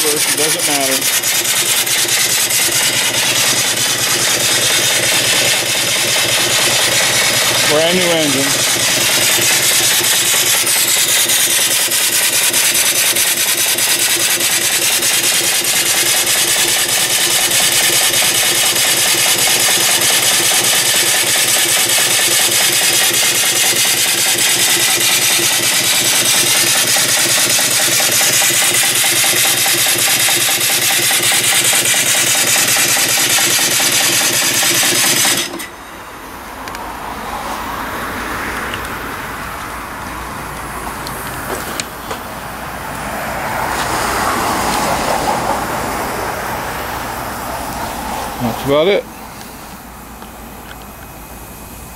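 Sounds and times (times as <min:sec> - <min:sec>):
steam engine exhaust chuffing: 0:00.0 - 0:38.8, 0:39.4 - 0:51.9.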